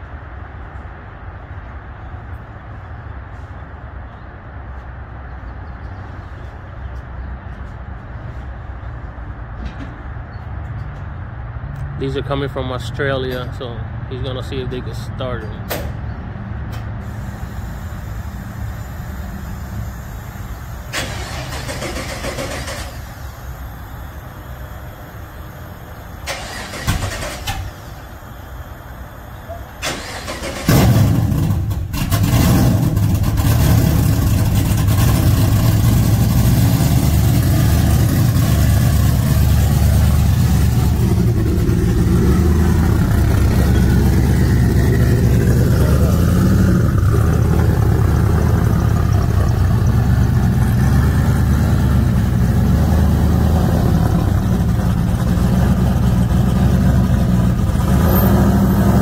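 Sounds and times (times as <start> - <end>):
truck engine starting and running: 0.0 - 59.0.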